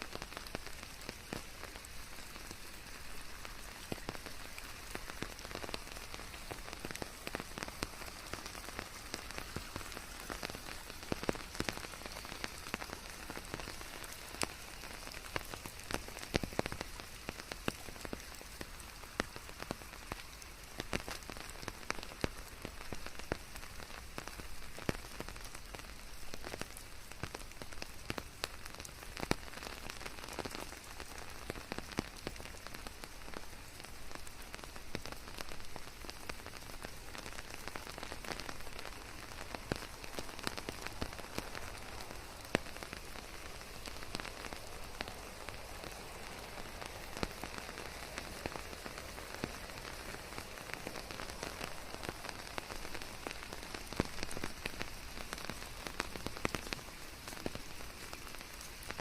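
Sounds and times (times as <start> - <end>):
close raindrop taps: 0.0 - 59.0
rain hissing: 0.0 - 59.0.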